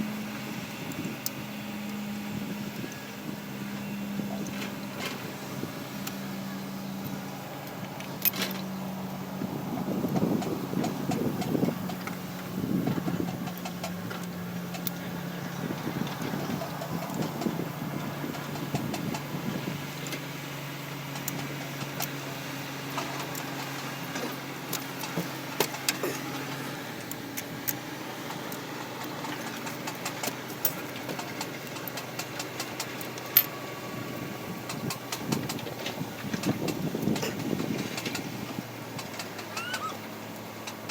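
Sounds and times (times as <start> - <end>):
engine humming at low speed: 0.0 - 40.9.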